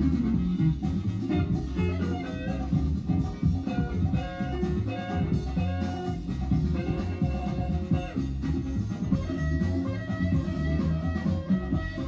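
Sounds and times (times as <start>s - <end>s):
instrumental guitar music: 0.0s - 12.0s.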